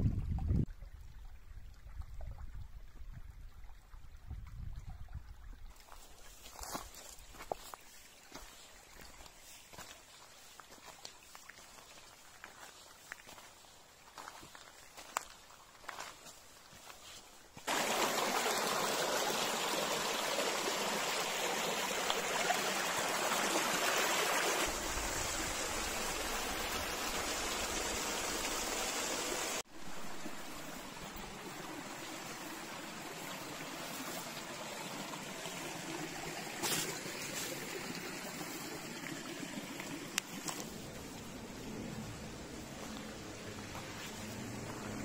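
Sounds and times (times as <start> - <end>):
stream water running: 0.0 - 45.0.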